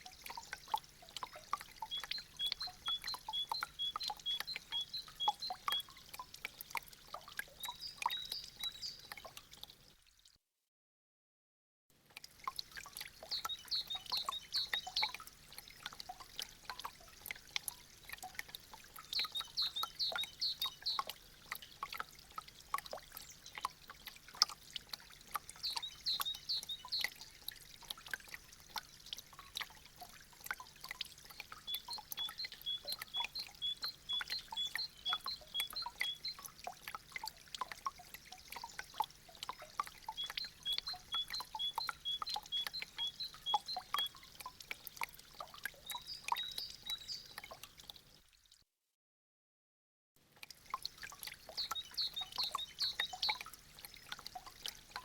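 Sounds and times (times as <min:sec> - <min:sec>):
meltwater dripping: 0:00.0 - 0:10.2, 0:12.0 - 0:48.3, 0:50.3 - 0:55.0.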